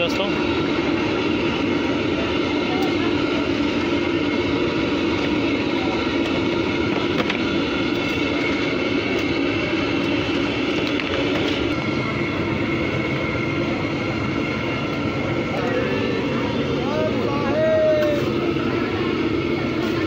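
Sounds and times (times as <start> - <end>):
burner roaring: 0.0 - 20.0.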